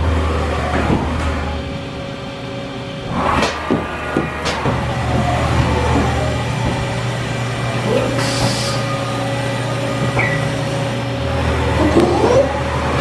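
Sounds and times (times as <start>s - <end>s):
machining center hum and whine: 0.0s - 13.0s.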